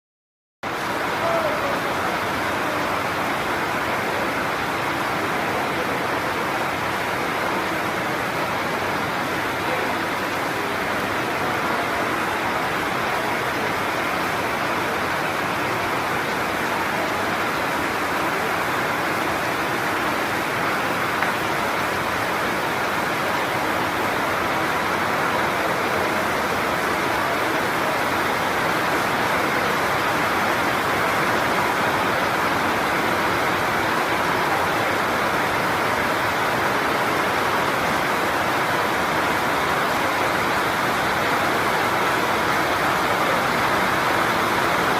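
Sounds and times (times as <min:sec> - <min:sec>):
heavy rain pouring: 0:00.6 - 0:44.9.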